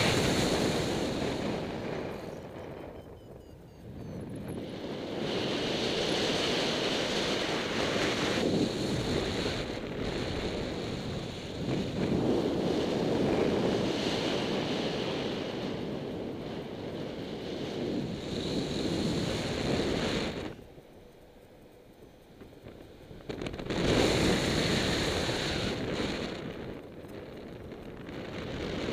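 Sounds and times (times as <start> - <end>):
airflow rushing over microphone: 0.0 - 28.9.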